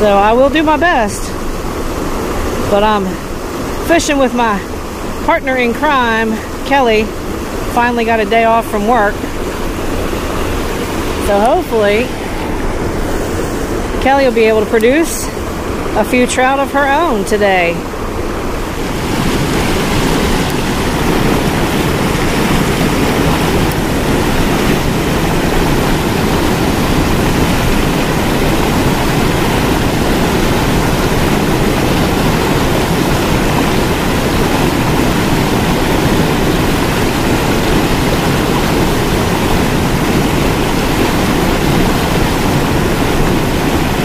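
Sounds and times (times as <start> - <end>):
water rushing over rocks: 0.0 - 44.0.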